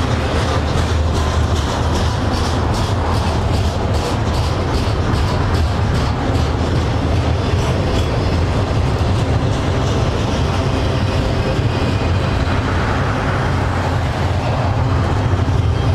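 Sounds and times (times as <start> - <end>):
steady low rumble: 0.0 - 15.9
train wheels on track: 0.0 - 15.9.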